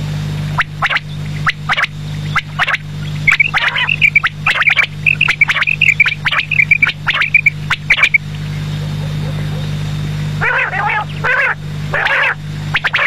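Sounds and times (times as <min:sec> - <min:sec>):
steady low hum: 0:00.0 - 0:13.0
quail chirping: 0:00.6 - 0:09.7, 0:10.4 - 0:13.0.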